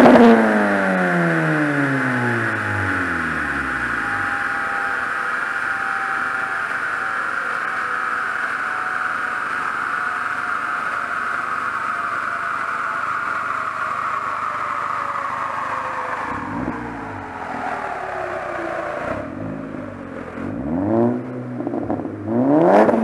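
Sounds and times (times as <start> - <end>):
car engine drone: 0.0 - 23.0
road and wind hiss: 0.1 - 23.0.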